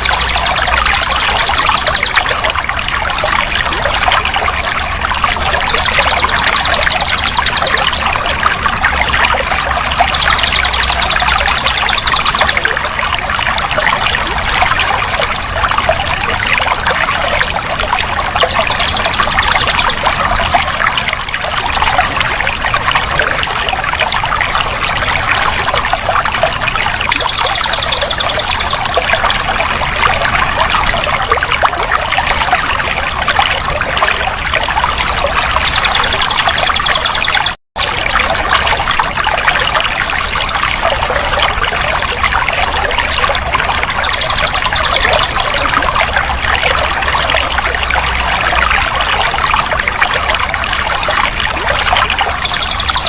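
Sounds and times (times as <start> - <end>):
water trickling and pouring: 0.0 - 53.0.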